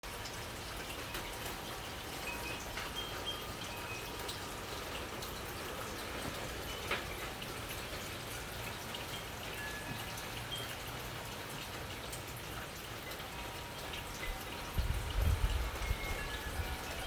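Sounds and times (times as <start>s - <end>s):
drips ticking: 0.0s - 17.0s
steady rain: 0.0s - 17.0s.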